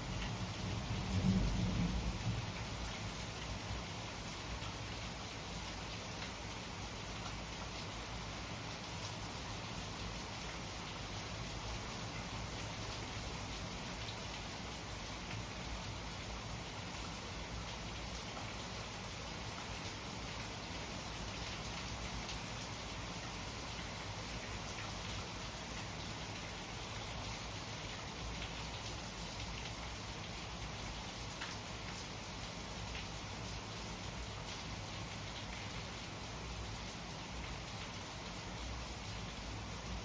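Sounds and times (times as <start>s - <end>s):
faint ticks of raindrops: 0.0s - 40.0s
steady rainfall: 0.0s - 40.0s.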